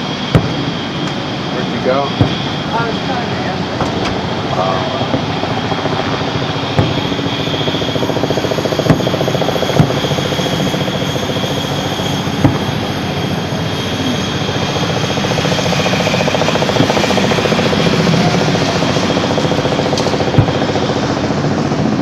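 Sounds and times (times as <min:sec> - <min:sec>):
distant fireworks bangs: 0:00.0 - 0:21.4
loud mechanical drone: 0:00.0 - 0:22.0.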